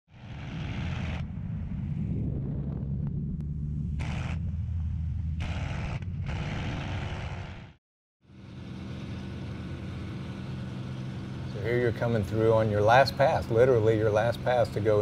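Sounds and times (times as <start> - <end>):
aircraft engine drone: 0.1 - 15.0.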